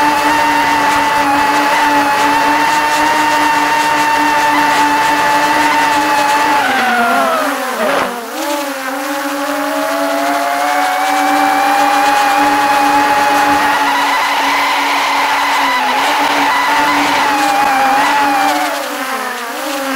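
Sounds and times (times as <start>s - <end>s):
drone propellers whining: 0.0s - 19.9s.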